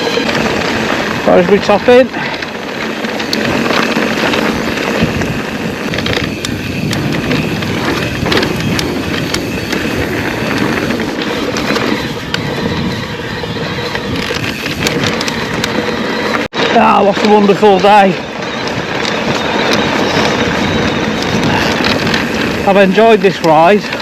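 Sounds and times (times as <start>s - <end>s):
bike rattles and clicks: 0.0s - 24.0s
bike tyre noise: 0.0s - 24.0s
wind buffeting microphone: 0.0s - 24.0s.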